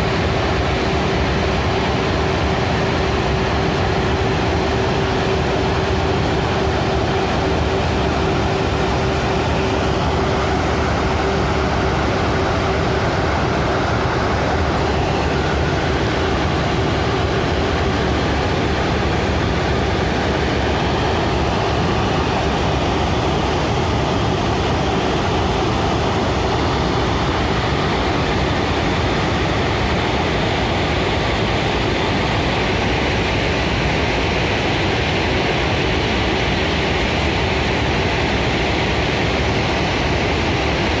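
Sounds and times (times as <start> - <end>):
heavy track machine engine noise: 0.0 - 41.0.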